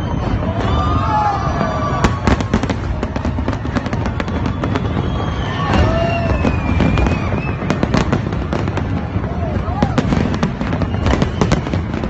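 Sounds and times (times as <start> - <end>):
fireworks bangs and crackling: 0.0 - 12.0
whistling fireworks: 0.0 - 12.0.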